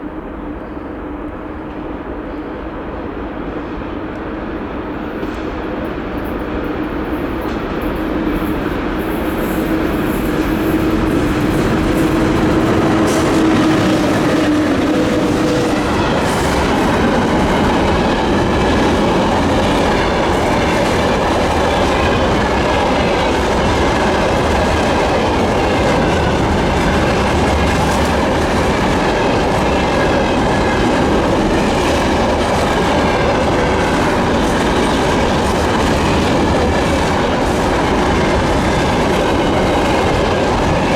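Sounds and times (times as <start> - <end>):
electric locomotive hum: 0.0 - 40.9.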